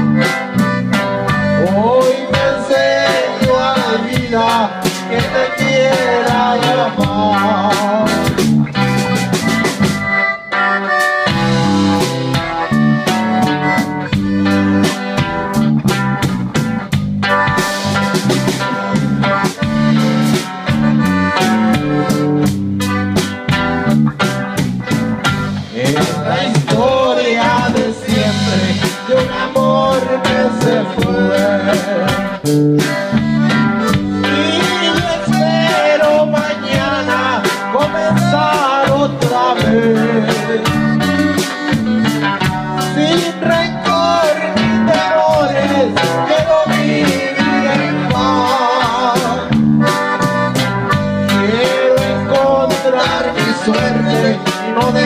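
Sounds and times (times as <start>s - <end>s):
button accordion melody: 0.0s - 55.0s
drum kit beat: 0.0s - 55.0s
electric bass: 0.0s - 55.0s
guitar: 0.0s - 55.0s.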